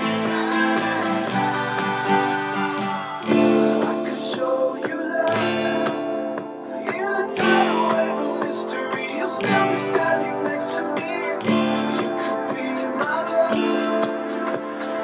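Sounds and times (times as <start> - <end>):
acoustic guitar strumming chords: 0.0 - 15.0
recorded pop song: 0.0 - 15.0.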